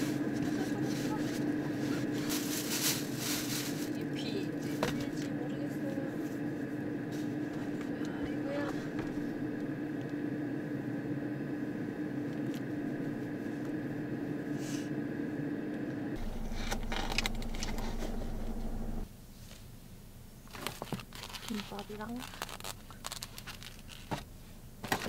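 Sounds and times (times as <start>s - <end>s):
motor hum with low whine: 0.0s - 25.0s.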